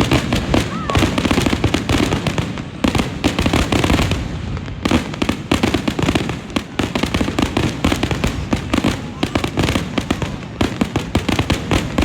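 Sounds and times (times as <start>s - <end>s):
fireworks bursts and crackling: 0.0s - 12.0s.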